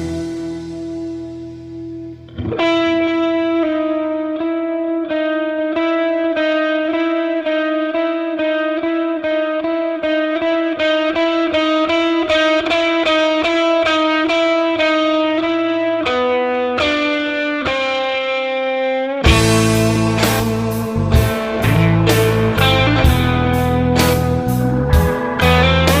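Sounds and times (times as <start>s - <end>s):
electric guitar with effects: 0.0s - 26.0s.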